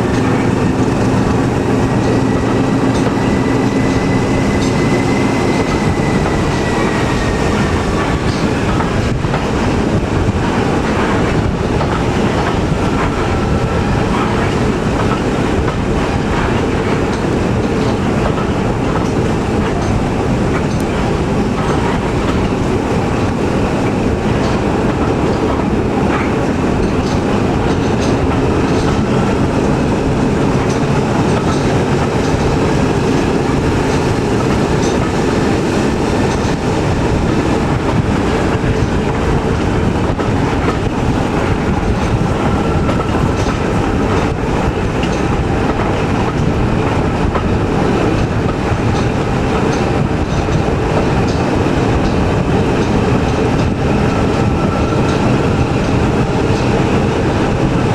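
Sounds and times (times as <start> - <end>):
train rumble: 0.0 - 57.9
wheels clicking over rail joints: 0.0 - 57.9.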